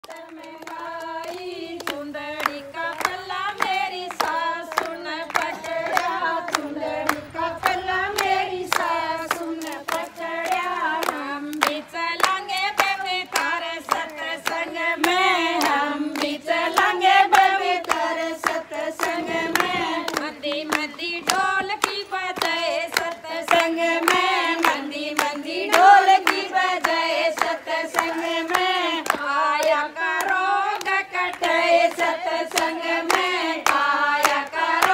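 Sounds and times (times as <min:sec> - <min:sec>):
rhythmic hand clapping: 0:00.0 - 0:34.9
women singing in unison: 0:00.0 - 0:34.9.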